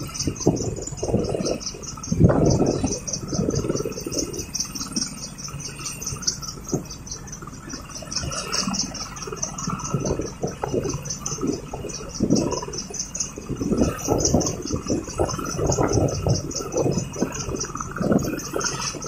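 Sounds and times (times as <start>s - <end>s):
insects chirping: 0.0s - 19.0s
low rumbling and rustling: 0.0s - 19.0s.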